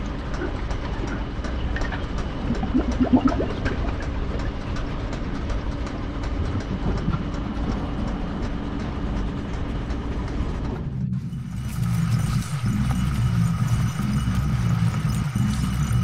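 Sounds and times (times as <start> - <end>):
low mechanical rumble and hum: 0.0 - 16.0.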